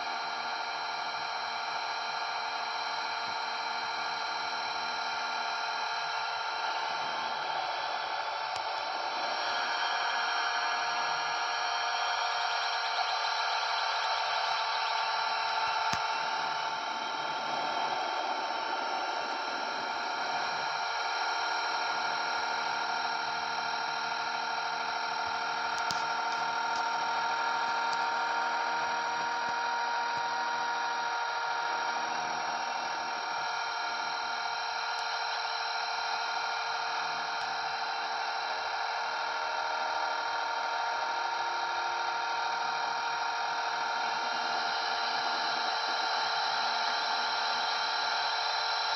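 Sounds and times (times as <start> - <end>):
rc helicopter motor whine: 0.0 - 48.9.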